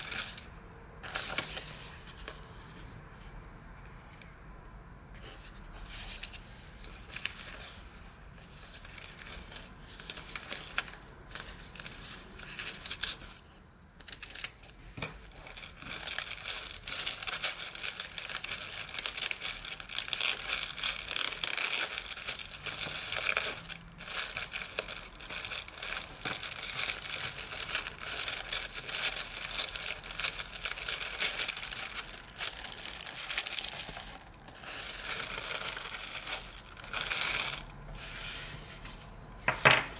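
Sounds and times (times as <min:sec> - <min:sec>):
wrapping paper crinkling: 0:00.0 - 0:02.4, 0:05.3 - 0:39.8.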